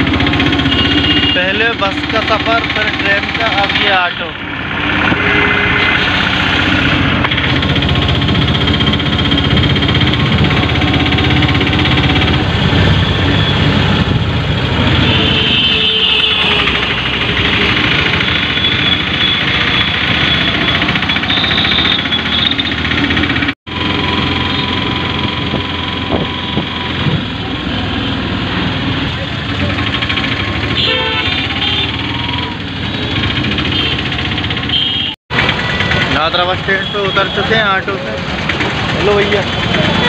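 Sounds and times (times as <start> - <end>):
auto-rickshaw engine running: 0.0 - 40.0.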